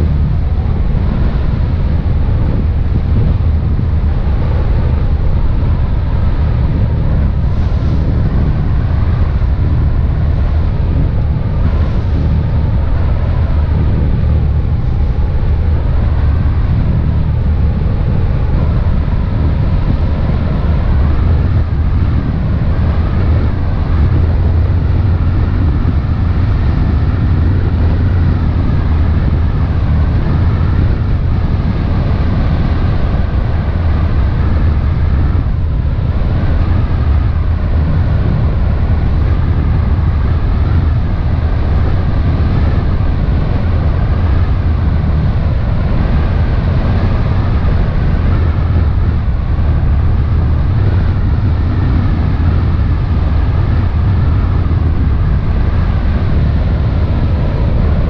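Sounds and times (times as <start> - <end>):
boat engines droning: 0.0 - 58.0
rushing wind and water: 0.0 - 58.0.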